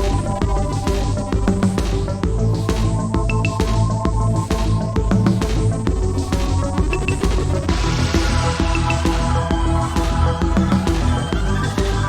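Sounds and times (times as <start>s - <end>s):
electronic music with bass: 0.0s - 12.0s.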